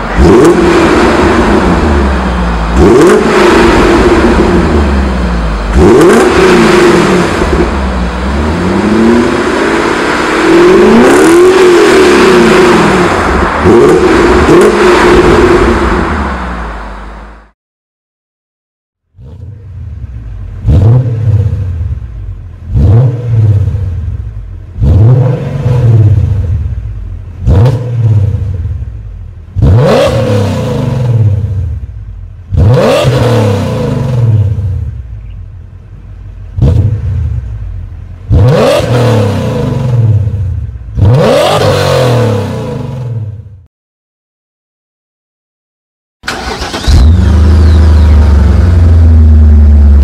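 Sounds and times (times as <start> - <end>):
car engine revving: 0.0 - 17.5, 19.2 - 35.2, 35.8 - 43.5, 46.2 - 50.0.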